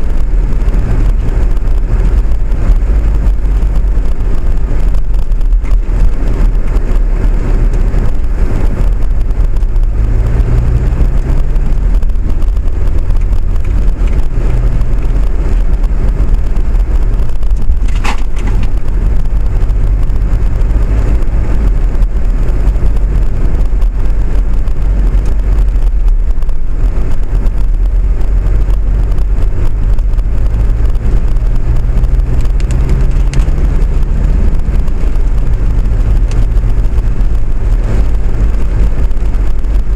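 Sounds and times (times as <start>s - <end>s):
vehicle rumble from inside: 0.0s - 39.9s.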